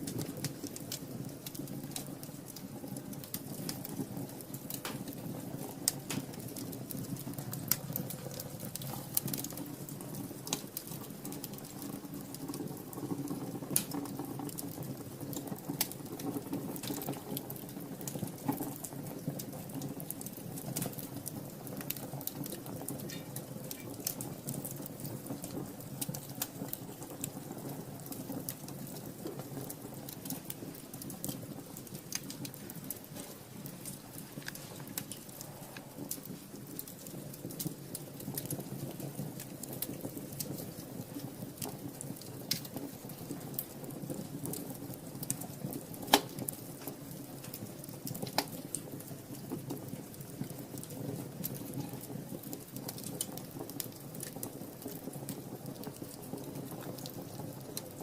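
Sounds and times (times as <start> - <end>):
sharp popping of fire: 0.0 - 58.0
wood fire crackling: 0.0 - 58.0.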